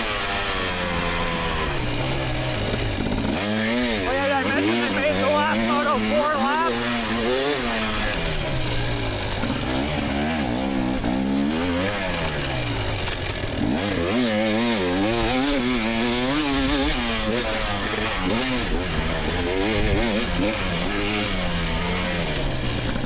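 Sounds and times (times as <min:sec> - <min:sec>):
two-stroke engine revving hard: 0:00.0 - 0:23.0.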